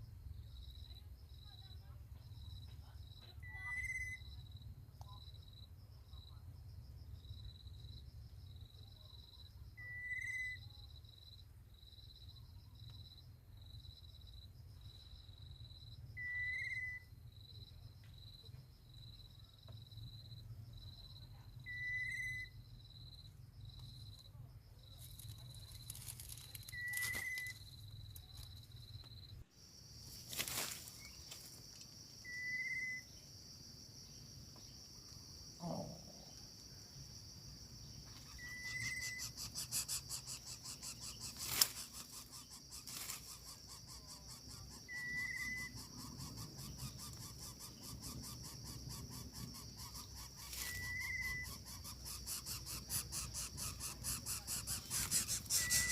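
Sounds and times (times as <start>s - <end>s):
insect chorus trilling: 0.0s - 55.9s.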